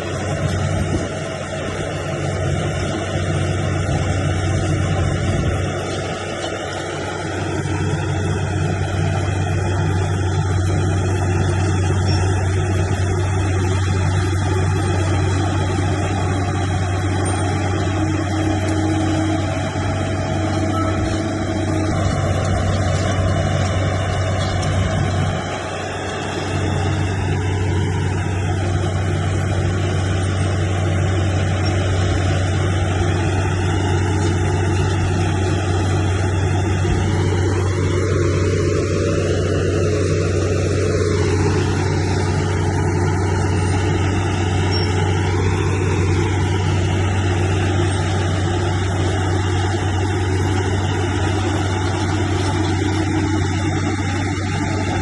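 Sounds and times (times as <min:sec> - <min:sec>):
bulldozer diesel engine drone: 0:00.0 - 0:55.0.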